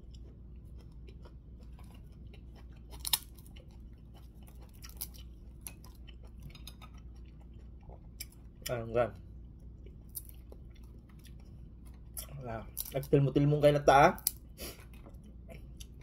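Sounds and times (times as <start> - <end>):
chewing crunchy fried fish: 0.0 - 16.0.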